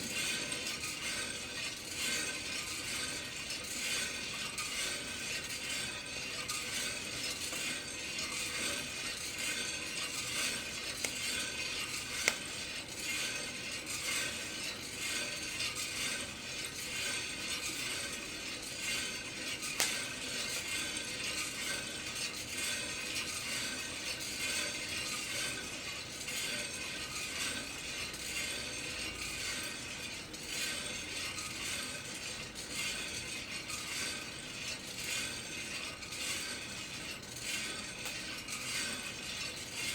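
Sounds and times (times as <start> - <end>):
coffee roaster drum rattling: 0.0 - 39.9.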